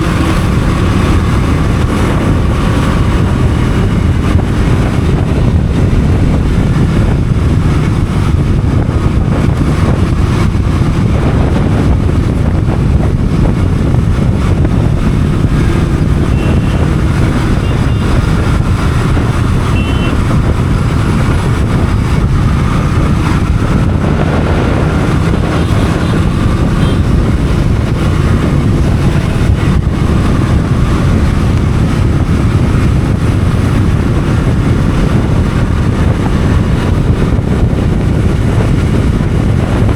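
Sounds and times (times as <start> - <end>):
motorcycle engine rumbling: 0.0 - 39.9
wind buffeting microphone: 0.0 - 39.9.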